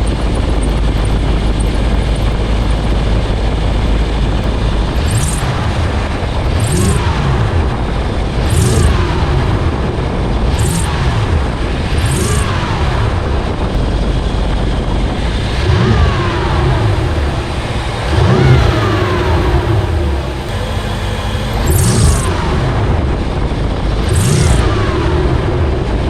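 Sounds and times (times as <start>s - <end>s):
car engine revving in blips: 0.0s - 26.0s.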